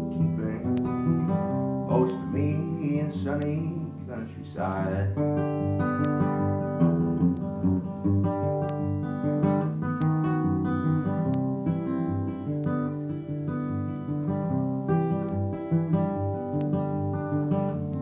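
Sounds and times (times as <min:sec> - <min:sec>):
acoustic guitar picking: 0:00.0 - 0:18.0.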